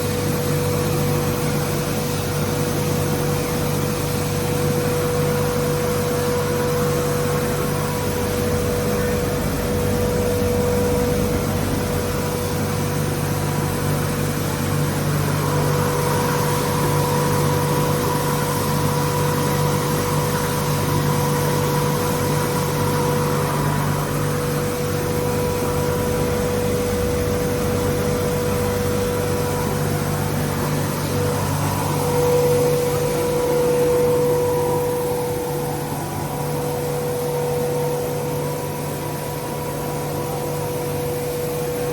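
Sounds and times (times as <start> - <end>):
constant mechanical whine: 0.0 - 41.9.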